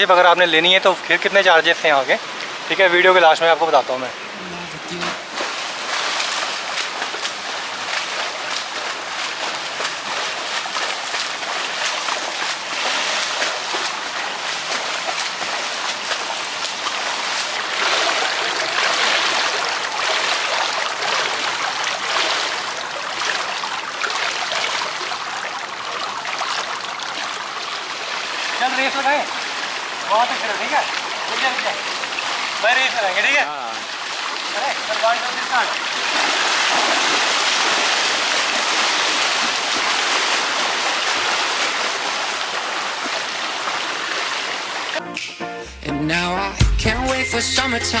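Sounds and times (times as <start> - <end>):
pool water splashing: 0.0 - 45.0.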